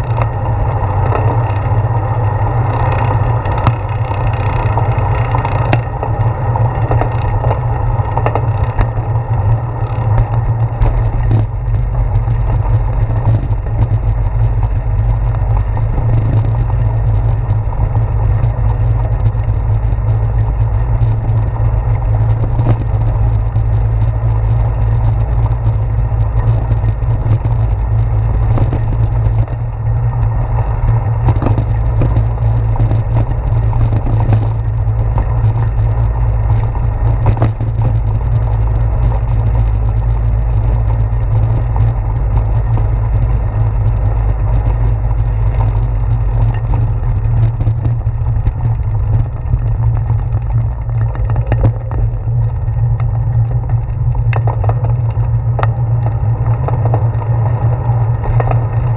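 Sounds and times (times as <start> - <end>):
bicycle tyre noise: 0.0 - 58.9
wind buffeting microphone: 0.0 - 58.9.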